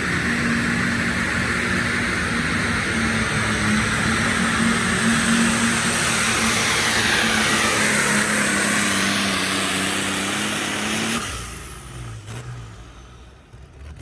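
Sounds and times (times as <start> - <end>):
turbo whine: 0.0 - 13.5
diesel engine running hard: 0.0 - 14.0.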